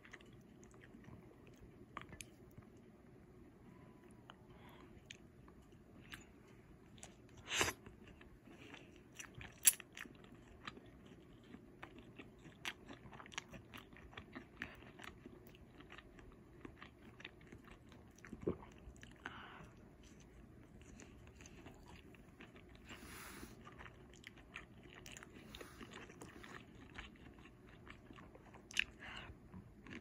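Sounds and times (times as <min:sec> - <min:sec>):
person chewing crispy food: 0:04.1 - 0:30.0.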